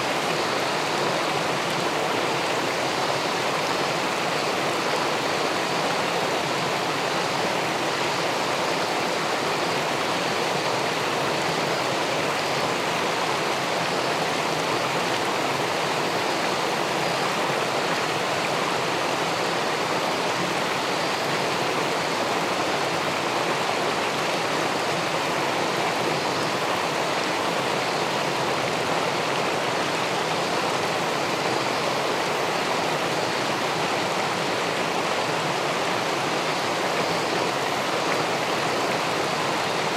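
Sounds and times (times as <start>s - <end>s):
underwater rush of river water: 0.0s - 39.9s.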